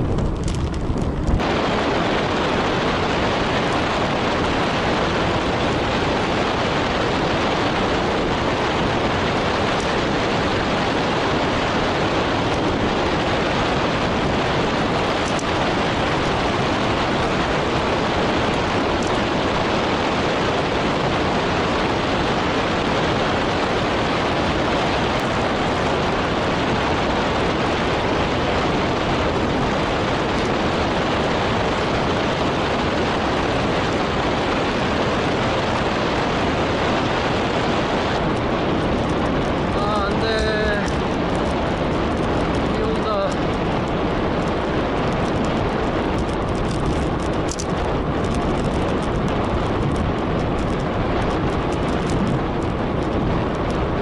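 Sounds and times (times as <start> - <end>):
wind noise on microphone: 0.0 - 54.0.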